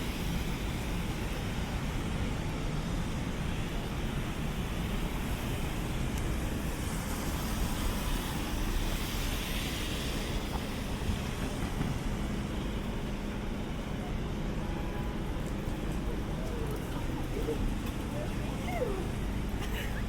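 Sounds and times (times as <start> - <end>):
traffic rumble with tyre hiss: 0.0 - 20.0.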